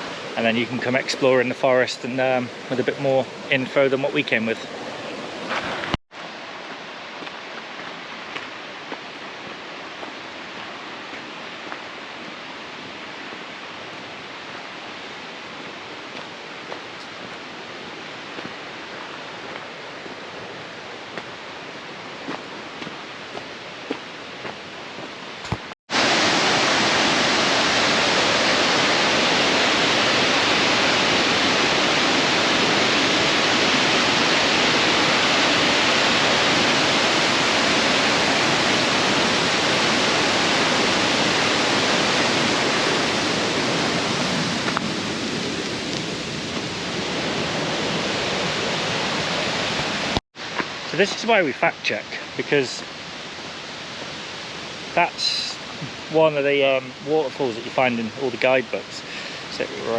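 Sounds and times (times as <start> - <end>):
river water rushing: 0.0 - 59.9
waterfall rushing: 0.0 - 59.9.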